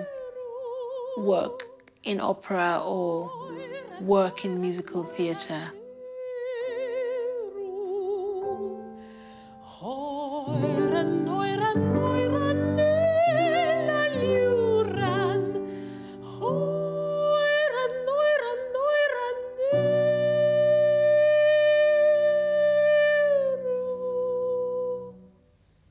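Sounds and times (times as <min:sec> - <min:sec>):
soprano singing with vibrato: 0:00.0 - 0:25.3.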